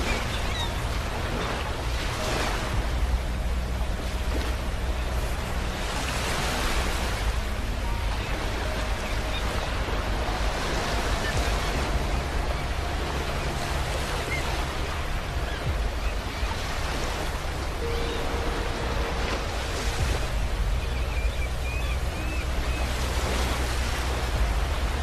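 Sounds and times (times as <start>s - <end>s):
sea waves washing onto beach: 0.0s - 25.0s.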